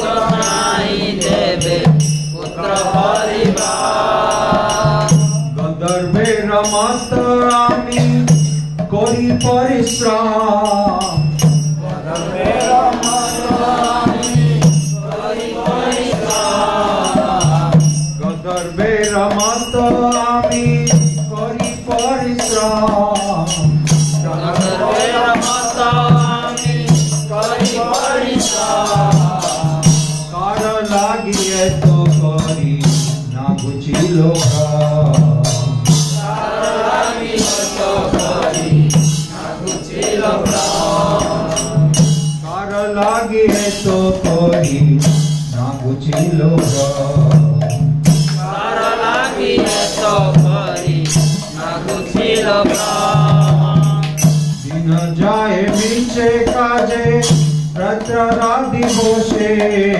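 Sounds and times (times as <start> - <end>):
devotional singing: 0.0 - 59.9
jingling hand percussion: 0.0 - 59.9.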